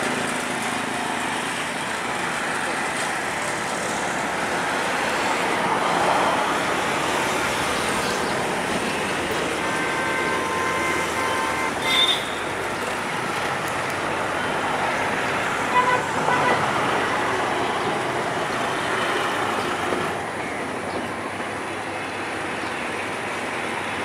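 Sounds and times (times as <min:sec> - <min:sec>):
diesel locomotive engine: 0:00.0 - 0:24.0.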